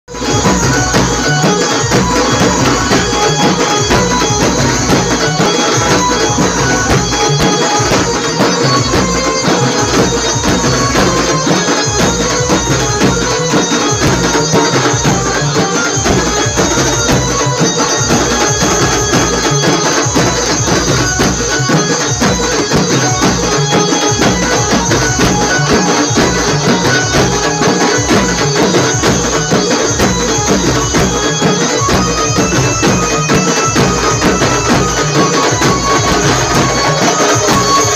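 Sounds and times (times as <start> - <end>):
barrel drums beating: 0.1 - 37.9.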